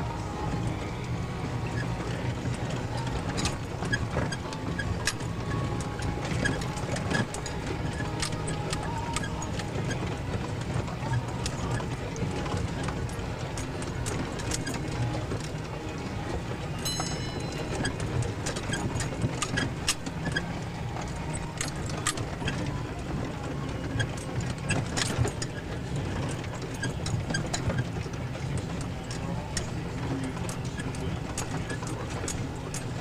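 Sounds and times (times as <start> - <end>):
car engine running at low speed: 0.0 - 33.0
loose gear clicking and knocking: 1.5 - 33.0.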